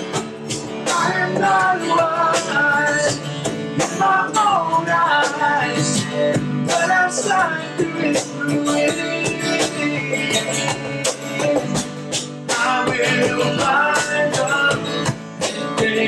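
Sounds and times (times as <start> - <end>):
acoustic guitar strumming: 0.0 - 16.0
cajon beat: 0.0 - 16.0
men singing: 0.0 - 16.0.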